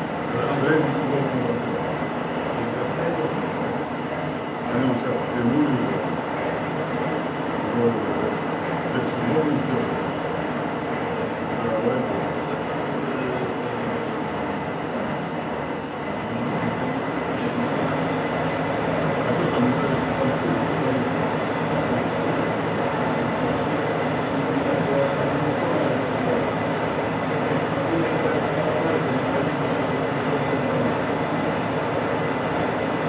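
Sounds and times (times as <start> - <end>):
machinery rumble: 0.0 - 33.0.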